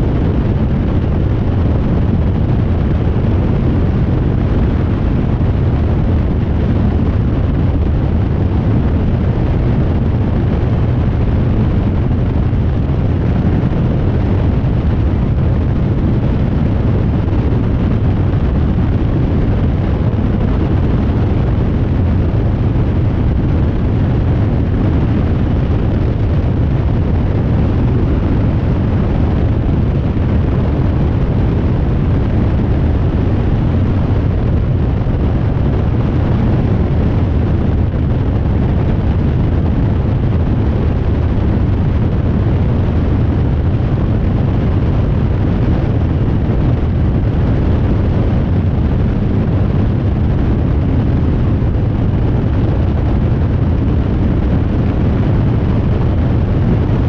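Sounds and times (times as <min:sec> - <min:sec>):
aircraft engine and propeller drone: 0:00.0 - 0:57.0
rushing airflow: 0:00.0 - 0:57.0.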